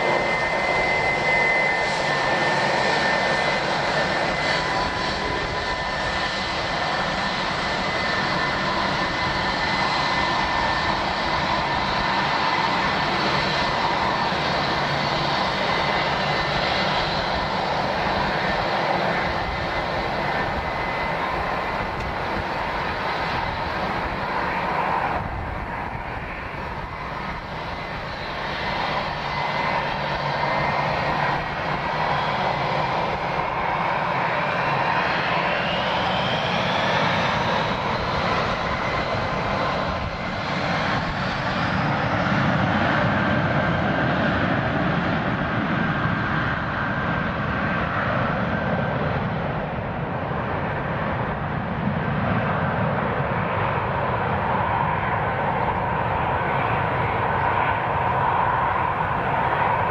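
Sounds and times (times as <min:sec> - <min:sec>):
airliner engines running: 0:00.0 - 0:59.9.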